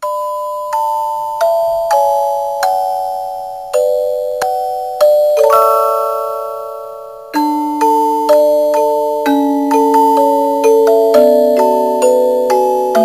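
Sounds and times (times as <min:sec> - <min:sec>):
slow bell-like melody: 0:00.0 - 0:13.0.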